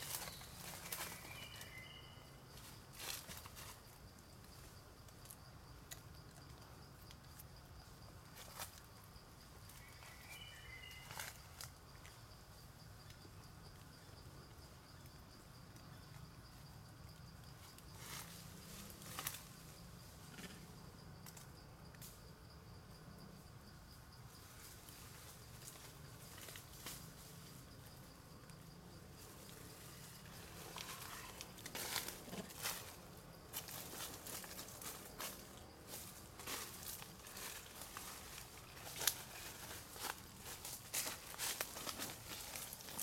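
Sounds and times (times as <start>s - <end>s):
insect trilling: 0.0s - 43.0s.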